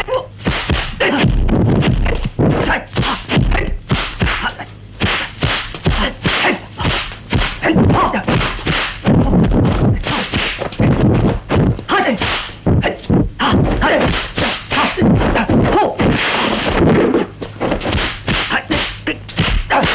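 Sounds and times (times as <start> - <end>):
punch whacks: 0.4 - 12.6, 13.5 - 17.1, 17.8 - 19.9
swishing strikes: 0.4 - 19.9.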